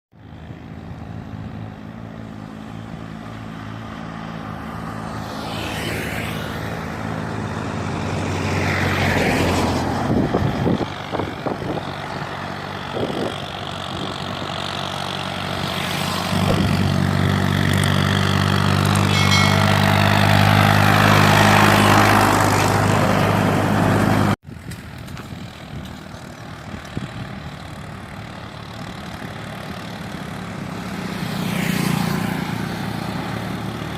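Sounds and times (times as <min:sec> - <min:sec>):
quieter engine running: 0:00.2 - 0:33.9
diesel tractor engines under load: 0:06.5 - 0:33.9.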